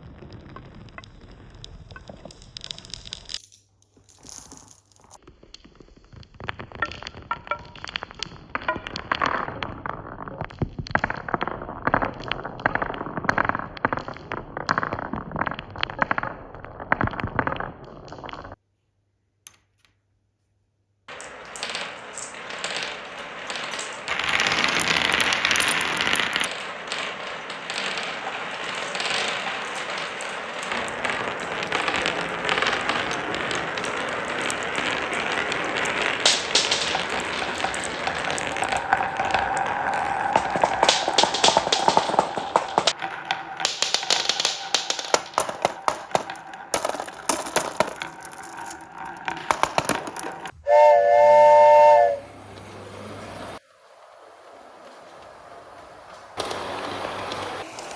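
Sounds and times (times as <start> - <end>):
glass marbles rolling and clicking: 0.0 - 5.2, 6.1 - 18.6, 21.1 - 50.5, 56.3 - 57.9.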